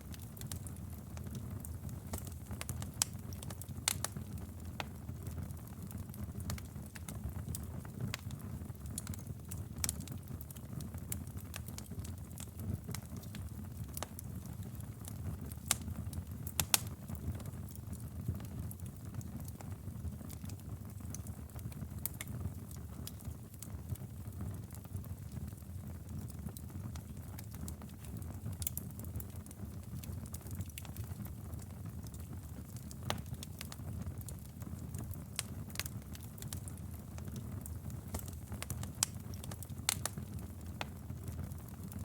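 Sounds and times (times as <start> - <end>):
fire crackling and popping: 0.0 - 42.0
low rumble of flames: 0.0 - 42.0.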